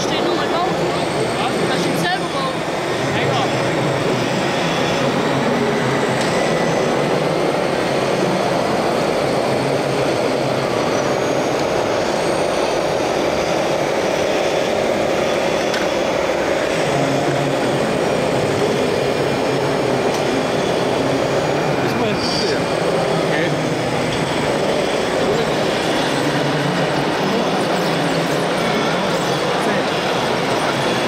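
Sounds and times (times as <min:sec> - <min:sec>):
exhibition hall hum: 0:00.0 - 0:31.0
model trucks running: 0:00.0 - 0:31.0.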